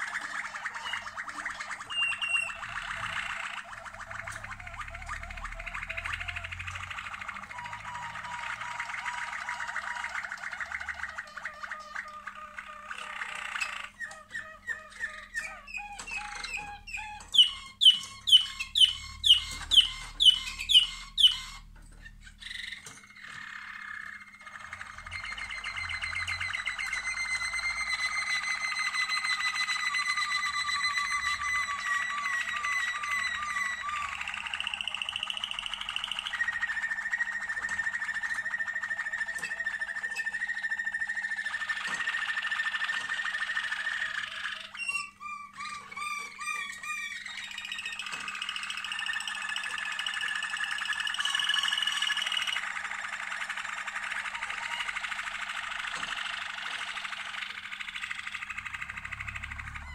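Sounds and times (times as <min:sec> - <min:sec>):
canaries singing: 0:00.0 - 0:59.9.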